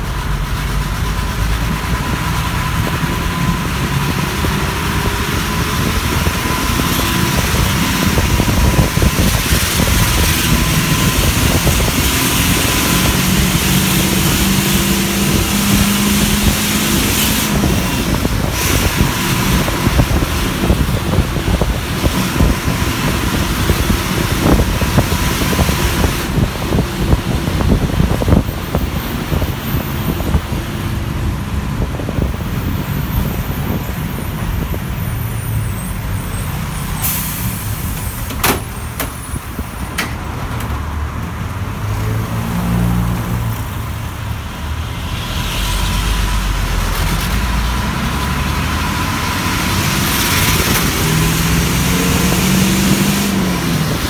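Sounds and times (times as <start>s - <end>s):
bus engine running: 0.0s - 54.0s
road rumble: 0.0s - 54.0s.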